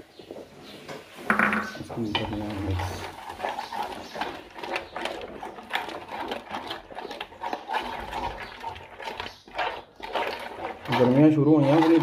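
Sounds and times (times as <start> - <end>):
spoon stirring thick marinade: 0.0 - 12.0.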